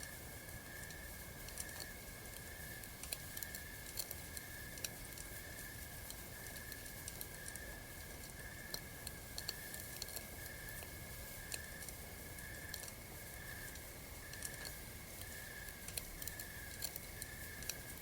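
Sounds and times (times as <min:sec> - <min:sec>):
night insects chirring: 0:00.0 - 0:18.0.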